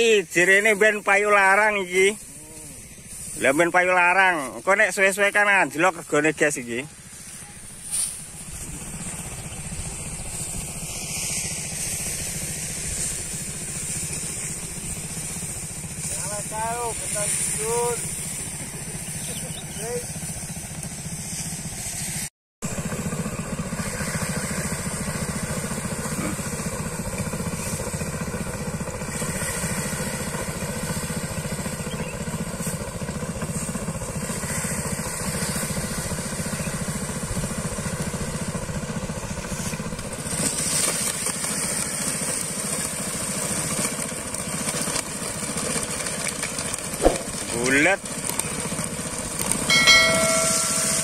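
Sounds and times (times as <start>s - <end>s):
hiss of stalks being fed: 0.0s - 51.0s
threshing machine engine droning: 0.0s - 51.0s.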